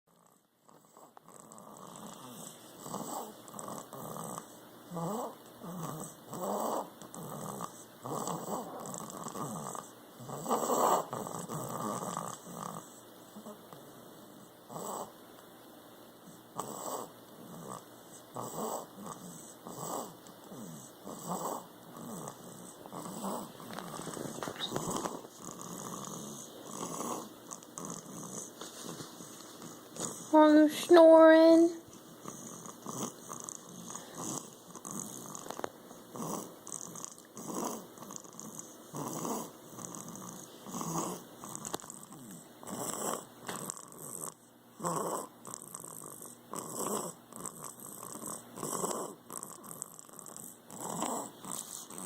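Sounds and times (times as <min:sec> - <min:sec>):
congested nasal snoring: 0:00.1 - 0:15.2, 0:16.2 - 0:28.6, 0:29.2 - 0:30.7, 0:32.2 - 0:52.0.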